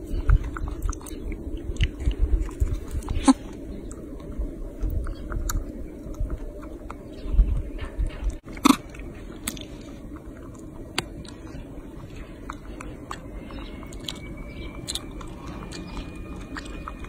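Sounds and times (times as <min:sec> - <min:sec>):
monkey chewing crunchy chocolate: 0:00.0 - 0:17.0.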